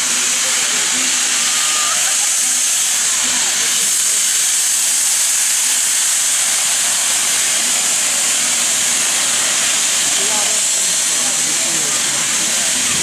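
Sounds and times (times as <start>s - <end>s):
steam hissing from locomotive: 0.0s - 13.0s.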